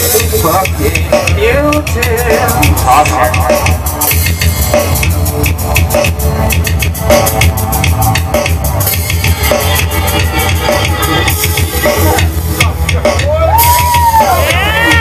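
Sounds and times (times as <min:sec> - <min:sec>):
hip-hop beat over loudspeakers: 0:00.0 - 0:15.0.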